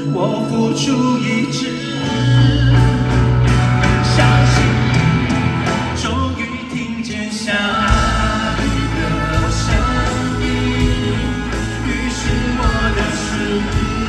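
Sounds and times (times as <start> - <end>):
pop ballad music: 0.0 - 14.0.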